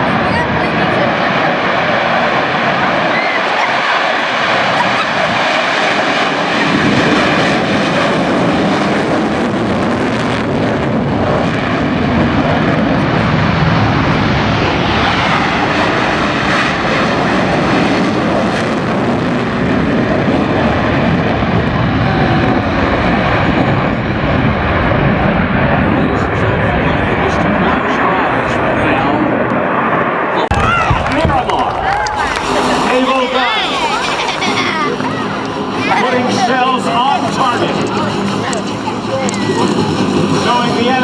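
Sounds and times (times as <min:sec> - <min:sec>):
military aircraft engine in flight: 0:00.0 - 0:41.0.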